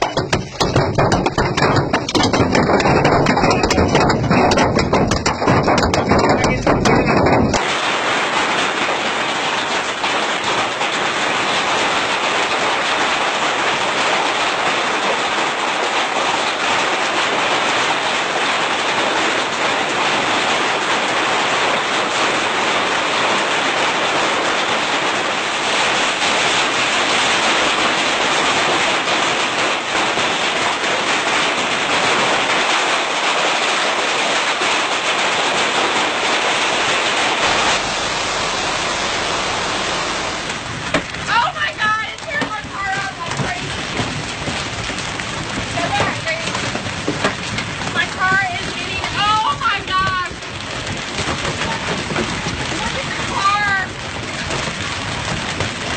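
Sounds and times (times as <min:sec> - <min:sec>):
heavy hail clattering: 0:00.0 - 0:55.9.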